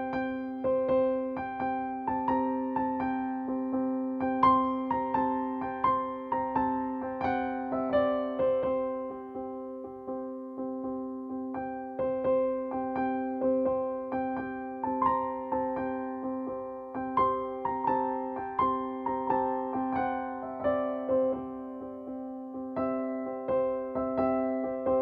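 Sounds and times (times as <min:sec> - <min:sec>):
electric piano melody: 0:00.0 - 0:25.0.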